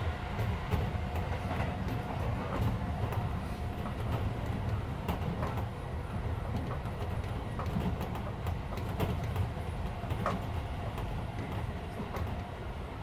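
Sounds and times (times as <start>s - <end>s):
train interior rumble: 0.0s - 13.0s.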